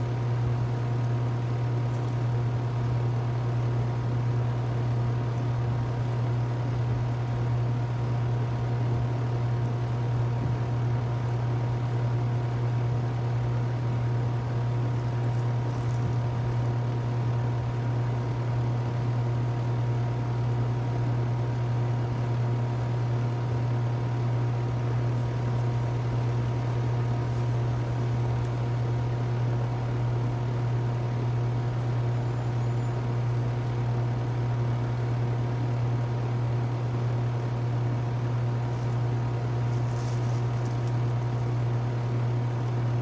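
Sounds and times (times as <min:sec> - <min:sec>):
heat pump humming: 0:00.0 - 0:43.0.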